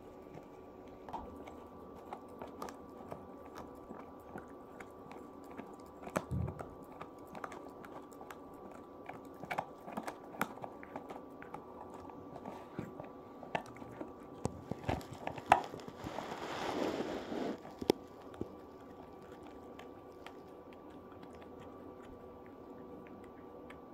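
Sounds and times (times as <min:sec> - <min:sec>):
puppy gnawing on chew stick: 0:00.0 - 0:23.9.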